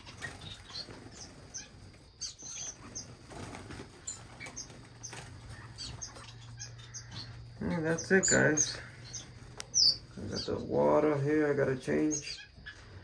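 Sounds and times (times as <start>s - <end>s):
finches chirping: 0.0s - 13.0s
finches fluttering wings: 0.0s - 13.0s.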